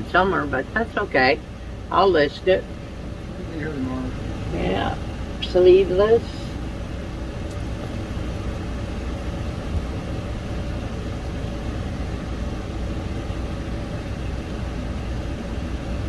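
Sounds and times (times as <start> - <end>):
faint steady hum: 0.0 - 16.0
low mechanical rumble: 0.0 - 16.0.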